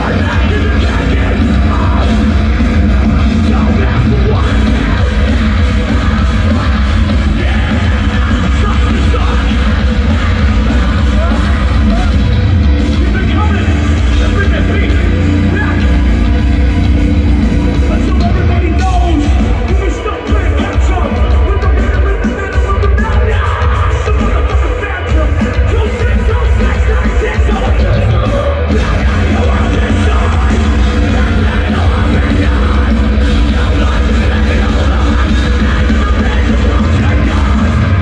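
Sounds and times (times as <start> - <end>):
metal band playing live: 0.0 - 38.0.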